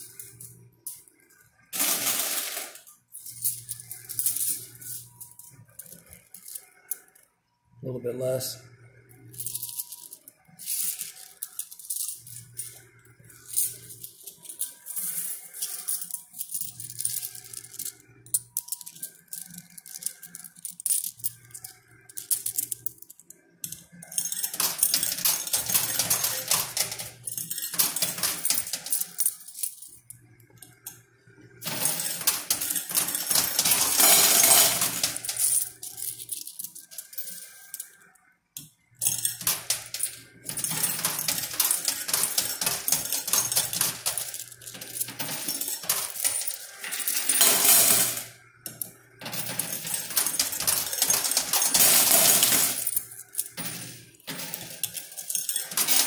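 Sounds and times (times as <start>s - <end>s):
coins clinking in coin pusher: 0.0s - 7.2s, 8.1s - 56.0s.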